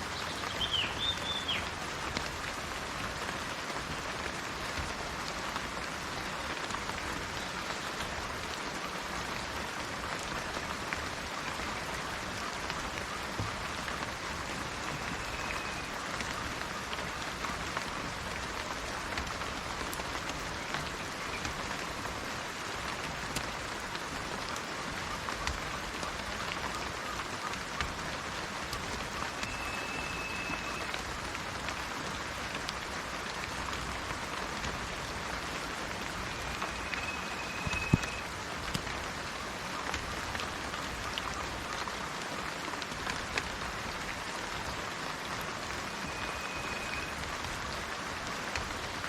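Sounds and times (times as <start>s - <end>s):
rain falling: 0.0s - 49.0s
raindrops ticking: 0.0s - 49.0s.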